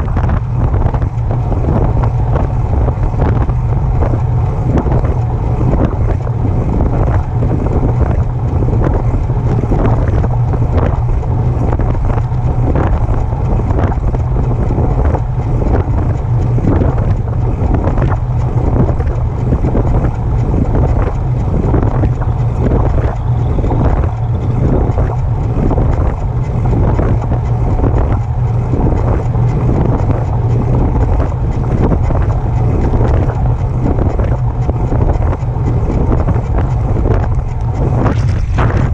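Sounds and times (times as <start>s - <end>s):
bicycle mechanical noise: 0.0s - 38.9s
wind buffeting microphone: 0.0s - 38.9s.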